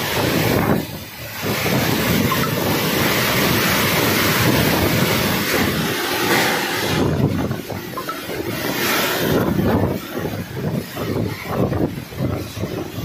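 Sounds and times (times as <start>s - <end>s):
heavy rain: 0.0s - 13.0s
storm wind blowing hard: 0.0s - 13.0s
wind buffeting microphone: 0.0s - 13.0s.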